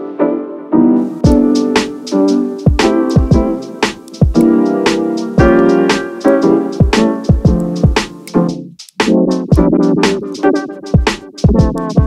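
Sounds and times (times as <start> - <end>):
electronic music with steady beat: 0.8 - 12.0.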